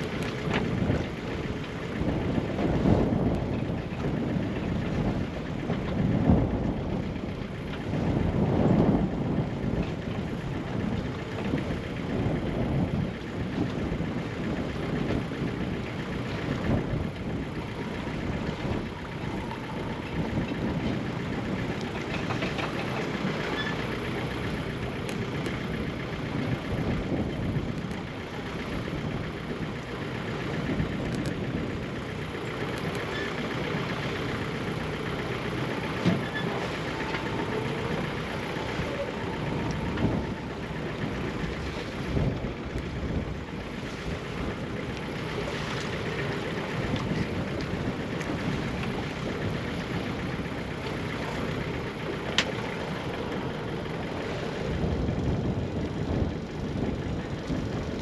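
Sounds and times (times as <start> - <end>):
boat engine low rumble: 0.0 - 58.0.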